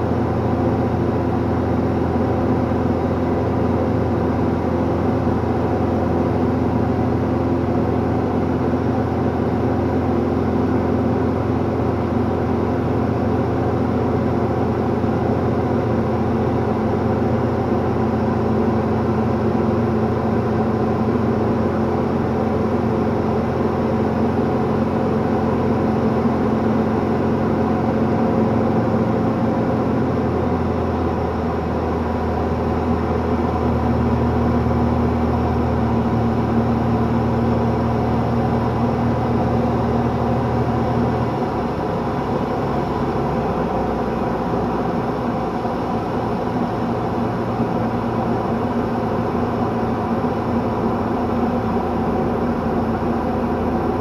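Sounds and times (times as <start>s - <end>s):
aircraft engine droning: 0.0s - 54.0s.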